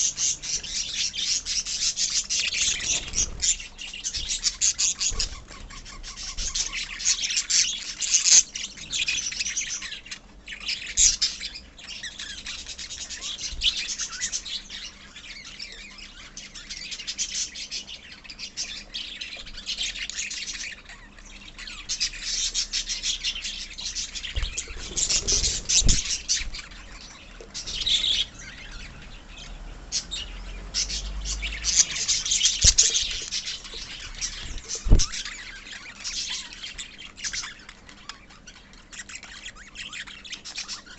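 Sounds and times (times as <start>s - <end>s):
parrots chirping: 0.0s - 40.9s.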